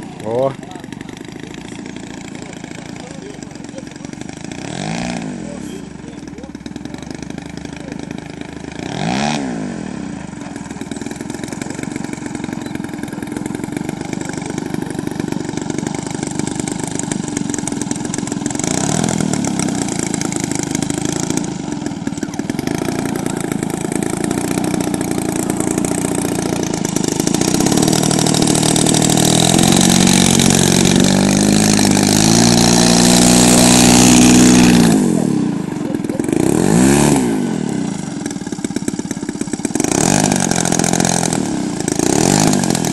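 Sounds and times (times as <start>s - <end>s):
propeller airplane flying past: 0.0s - 42.9s.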